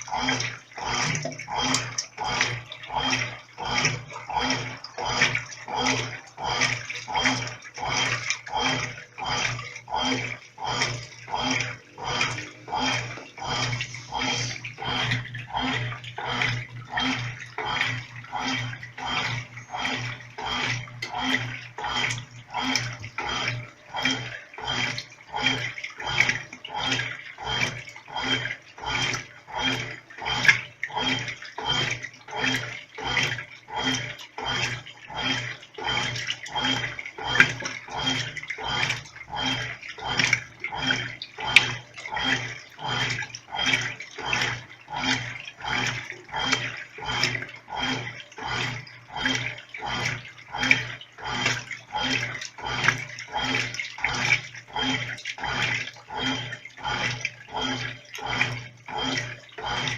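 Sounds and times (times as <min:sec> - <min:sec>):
washing machine agitating water: 0:00.0 - 0:59.9.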